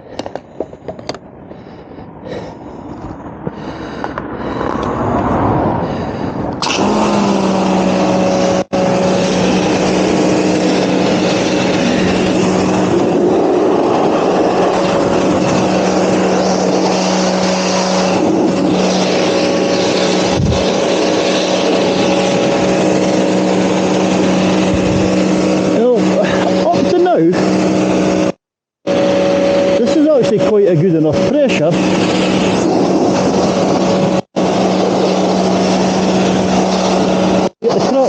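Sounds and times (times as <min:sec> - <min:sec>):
high-pressure water jet hissing: 0:03.5 - 0:38.0
pressure washer motor humming: 0:05.8 - 0:38.0.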